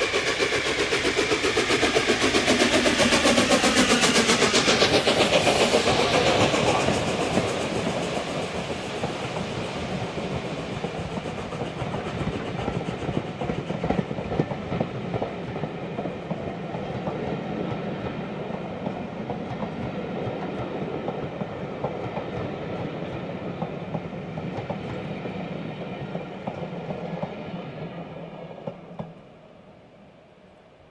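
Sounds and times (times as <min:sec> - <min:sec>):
steam locomotive exhaust beat: 0:00.0 - 0:29.4.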